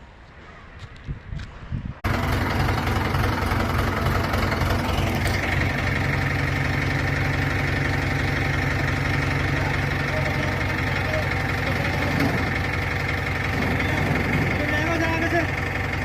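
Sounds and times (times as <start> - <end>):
heavy machinery engine drone: 2.0 - 16.0.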